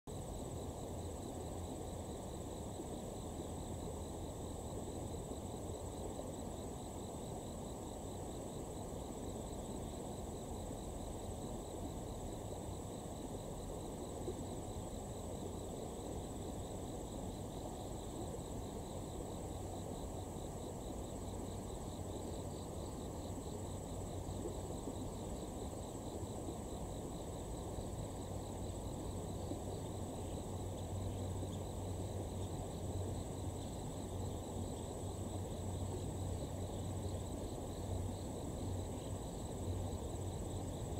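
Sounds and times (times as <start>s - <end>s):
insects trilling: 0.1s - 40.9s.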